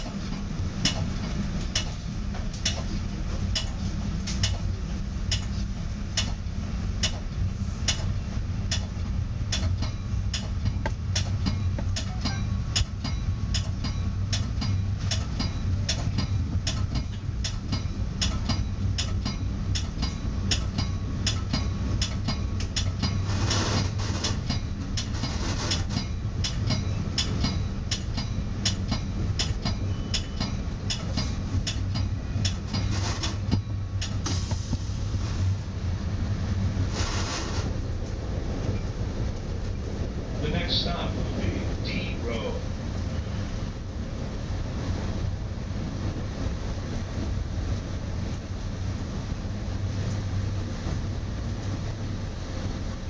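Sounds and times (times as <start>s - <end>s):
train rumble: 0.0s - 53.0s.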